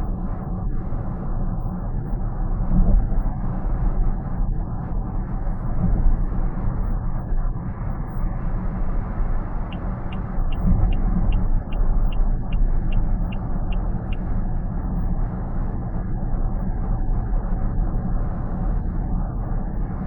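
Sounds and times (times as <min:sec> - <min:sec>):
road and tyre noise in car: 0:00.0 - 0:20.0.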